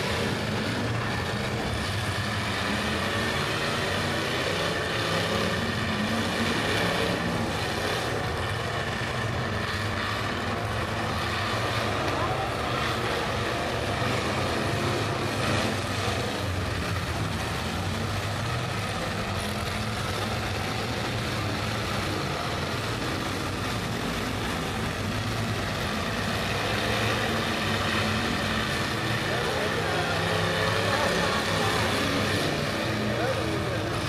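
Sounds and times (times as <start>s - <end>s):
several car engines running: 0.0s - 34.0s.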